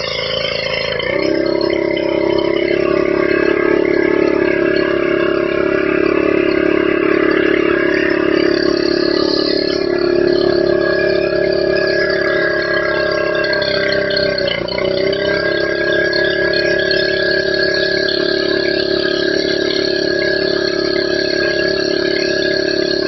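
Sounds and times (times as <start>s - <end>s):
pressure washer engine drone: 0.0s - 23.0s.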